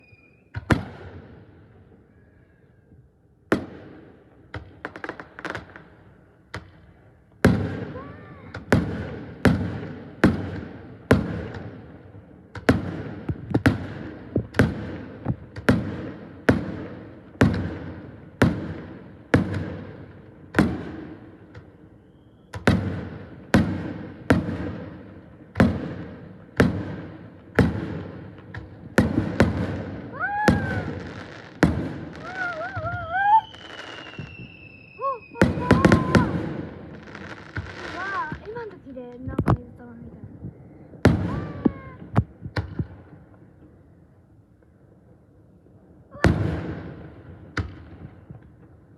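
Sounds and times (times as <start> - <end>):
fireworks bursting with sharp bangs: 0.0 - 44.8, 46.1 - 48.9.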